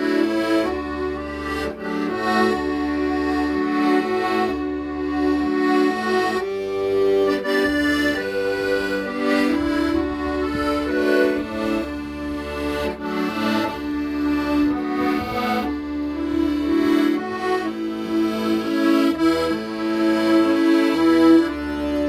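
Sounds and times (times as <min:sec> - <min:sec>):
accordion playing melody: 0:00.0 - 0:22.0.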